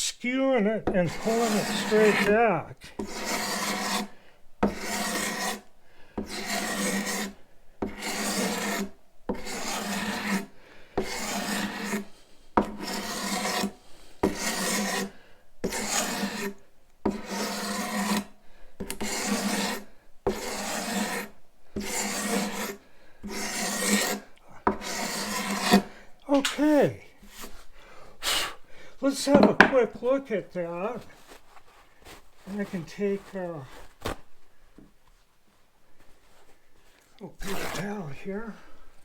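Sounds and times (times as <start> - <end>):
hand scraper rasping on wood: 0.8 - 26.5, 27.2 - 31.3, 32.1 - 33.8, 37.4 - 38.2.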